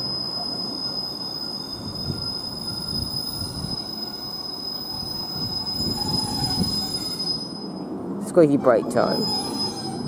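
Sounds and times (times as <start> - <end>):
thin high squeal: 0.0 - 7.8, 8.6 - 10.0
train wheels rumbling on rail: 0.0 - 10.0.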